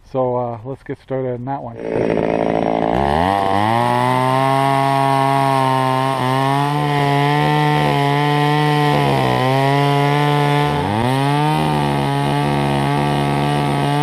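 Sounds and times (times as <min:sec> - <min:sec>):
chainsaw cutting wood: 0:01.8 - 0:14.0.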